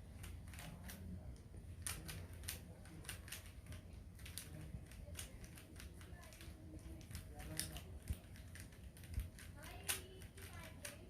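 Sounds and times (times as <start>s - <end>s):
plastic puzzle cube clicking: 1.8s - 11.0s.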